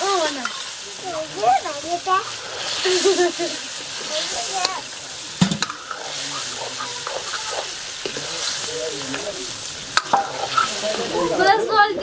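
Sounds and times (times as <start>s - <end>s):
spatula stirring and scraping: 0.0s - 11.4s
curry sizzling in a pan: 0.0s - 12.0s.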